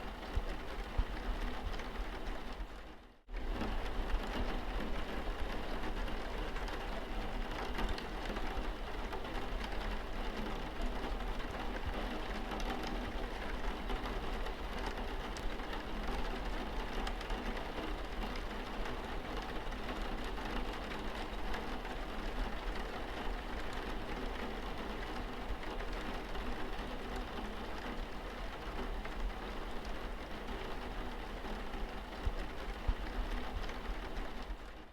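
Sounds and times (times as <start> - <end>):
rain on car windscreen: 0.1 - 34.9.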